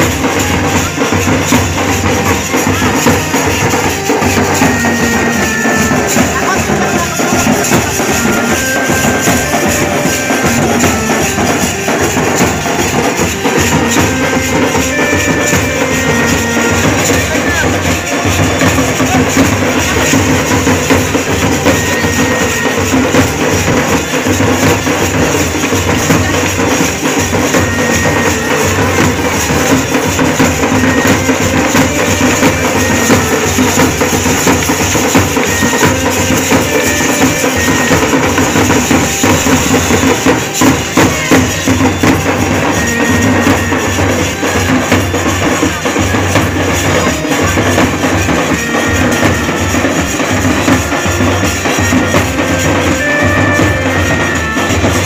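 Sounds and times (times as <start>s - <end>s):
jingling metal percussion: 0.0s - 55.0s
loud fast drumming: 0.0s - 55.0s.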